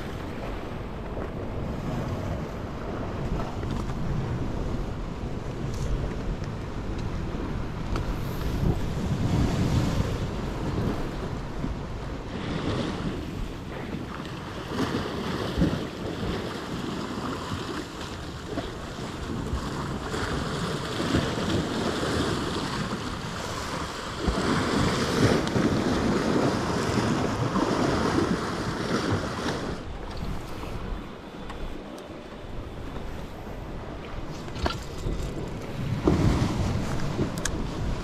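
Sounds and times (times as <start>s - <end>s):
sea waves washing against rocks: 0.0s - 38.0s
wind buffeting microphone: 0.0s - 38.0s.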